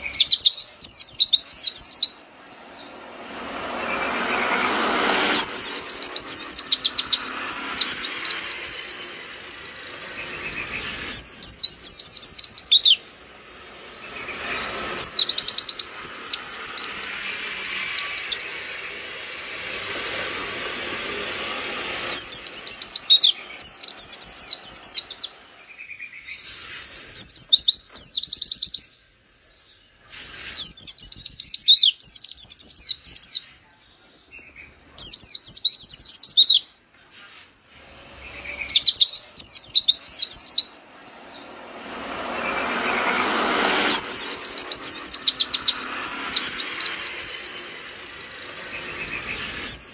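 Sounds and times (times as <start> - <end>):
bird singing high chirps: 0.0 - 19.8, 20.7 - 49.9.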